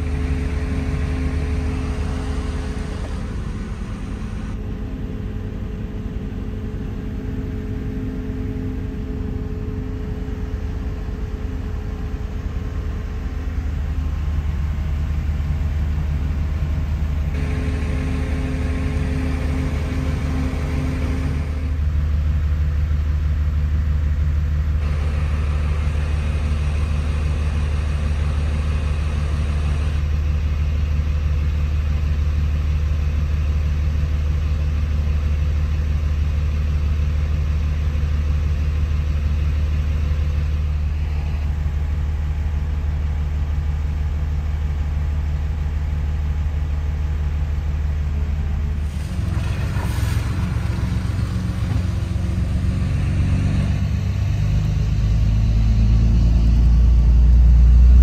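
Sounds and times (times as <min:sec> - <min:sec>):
engine rumble inside cab: 0:00.0 - 0:58.0.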